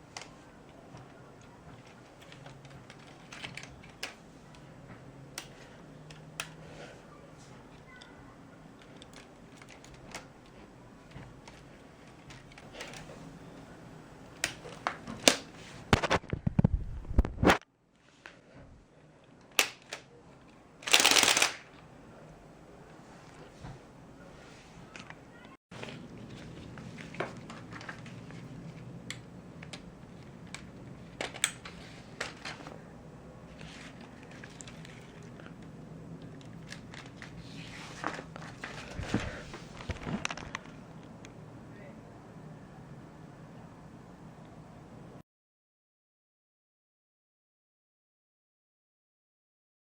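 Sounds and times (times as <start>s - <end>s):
low room hum: 0.0s - 45.2s.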